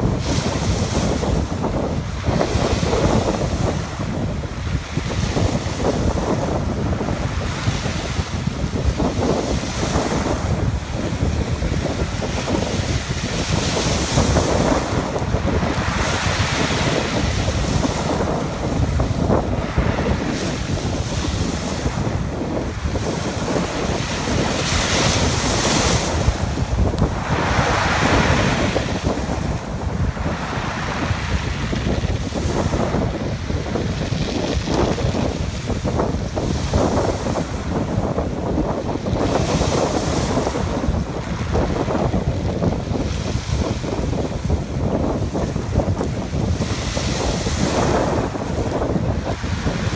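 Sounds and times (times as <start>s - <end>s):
waves breaking on pebble beach: 0.0s - 49.9s
wind buffeting microphone: 0.0s - 49.9s.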